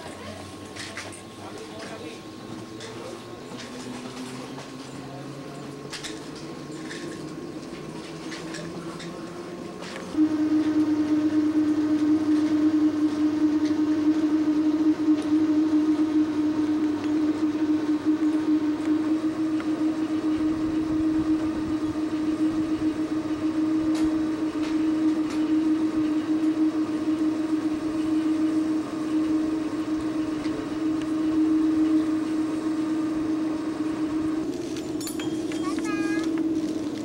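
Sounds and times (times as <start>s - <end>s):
cable car droning hum: 0.0s - 37.0s
cable car rolling rumble: 0.0s - 37.0s.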